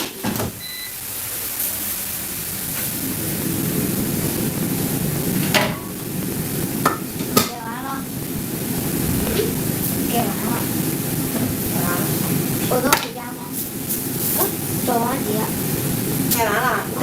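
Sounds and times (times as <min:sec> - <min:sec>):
frying rush: 0:00.0 - 0:17.0.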